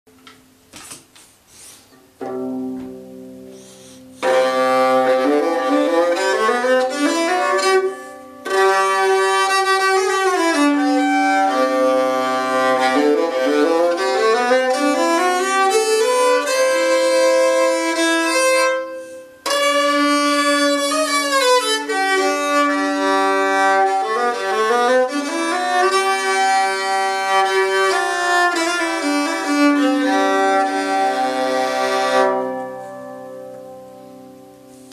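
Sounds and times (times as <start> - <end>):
bowed viola scales: 2.2 - 34.9.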